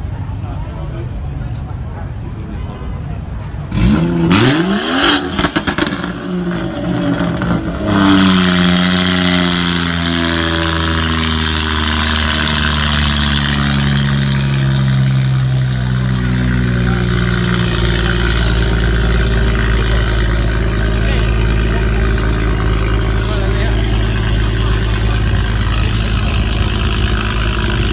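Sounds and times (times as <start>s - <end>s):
loud car exhaust: 3.6s - 27.9s.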